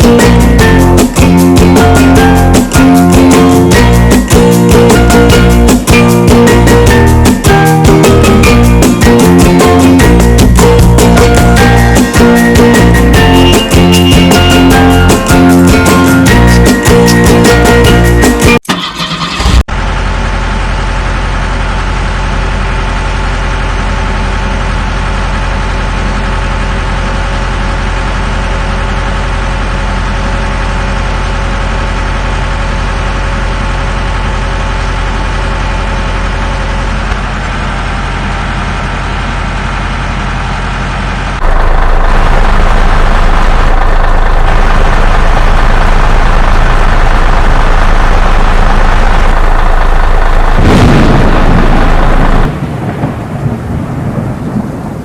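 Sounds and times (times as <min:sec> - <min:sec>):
truck engine idling: 0:00.0 - 0:54.1.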